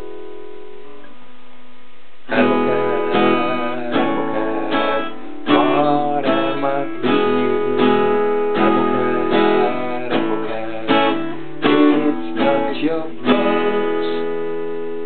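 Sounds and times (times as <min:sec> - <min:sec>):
acoustic guitar strumming: 0:00.0 - 0:01.2, 0:02.2 - 0:15.0.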